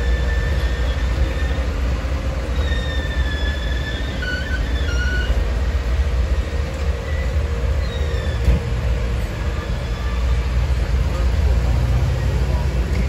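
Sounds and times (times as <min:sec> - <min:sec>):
train rumbling on rails: 0:00.0 - 0:13.0
wheels squealing on rail: 0:00.0 - 0:13.0.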